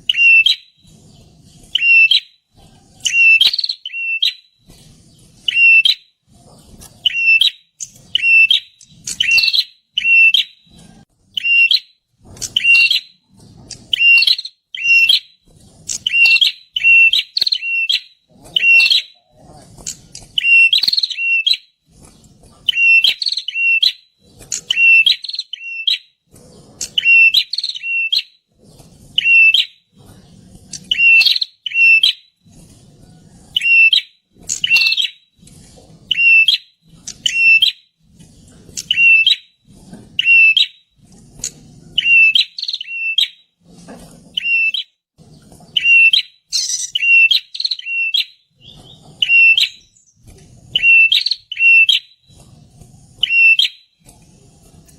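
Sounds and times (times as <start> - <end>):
bird chirping song: 0.0 - 35.3, 36.1 - 37.9, 38.7 - 39.6, 40.2 - 40.8, 41.4 - 43.5, 44.4 - 52.5, 53.2 - 54.2.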